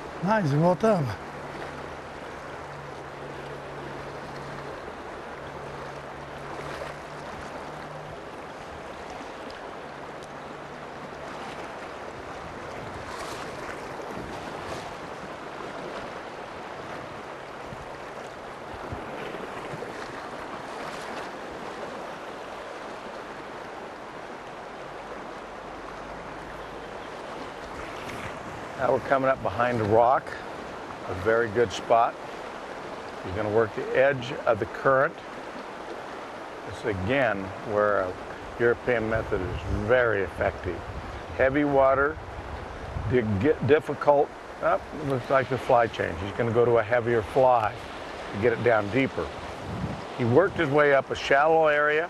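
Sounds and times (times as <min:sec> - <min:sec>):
river water rushing over rocks: 0:00.0 - 0:39.2, 0:43.6 - 0:52.0.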